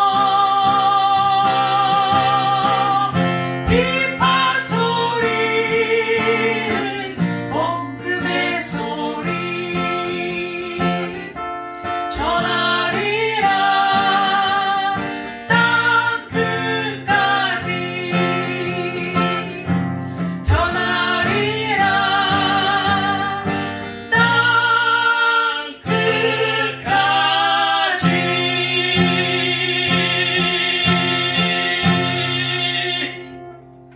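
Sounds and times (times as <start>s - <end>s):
woman singing with vibrato: 0.0s - 33.5s
acoustic guitar: 0.0s - 33.9s.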